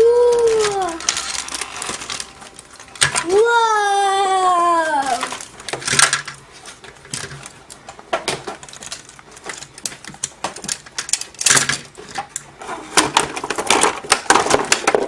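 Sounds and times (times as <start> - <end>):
plastic toy parts clattering: 0.0 - 3.7, 4.6 - 15.0.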